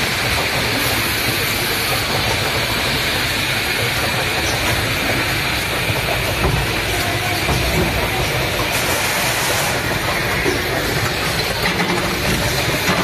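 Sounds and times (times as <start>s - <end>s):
machinery humming and hissing: 0.0s - 13.0s.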